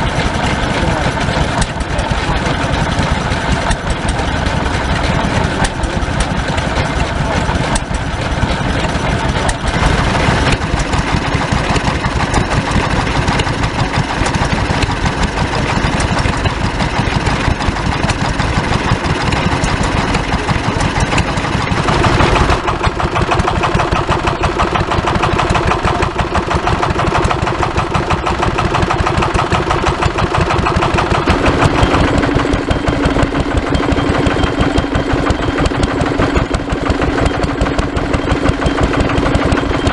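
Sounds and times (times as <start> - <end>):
stationary engines running: 0.0 - 39.9.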